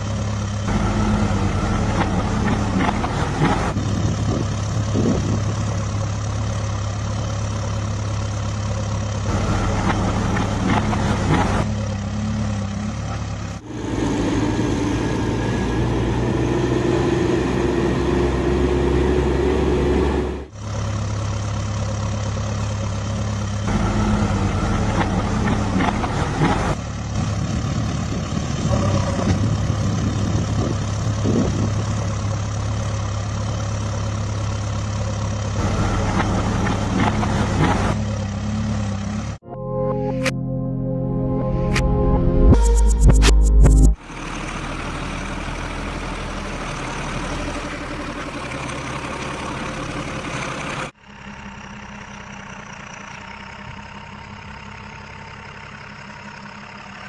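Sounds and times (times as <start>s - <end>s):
heavy diesel engine running: 0.0s - 39.4s, 41.3s - 57.0s.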